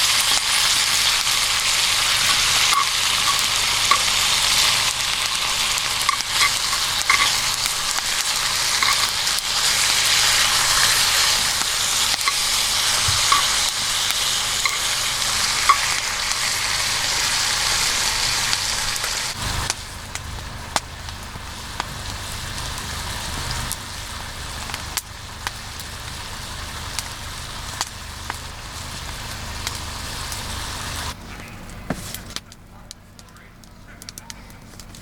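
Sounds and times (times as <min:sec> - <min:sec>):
food sizzling in hot oil: 0:00.0 - 0:31.2.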